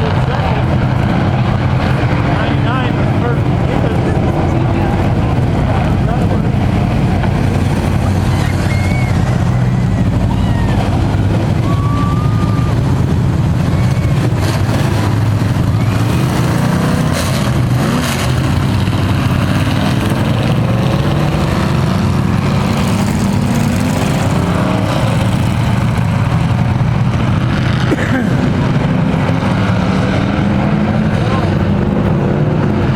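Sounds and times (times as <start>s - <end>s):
race truck engines rumbling: 0.0s - 32.9s.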